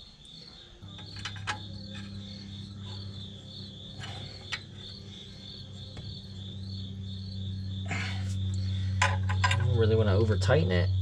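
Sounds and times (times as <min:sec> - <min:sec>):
crickets chirping: 0:00.0 - 0:11.0
low electrical hum: 0:00.0 - 0:11.0.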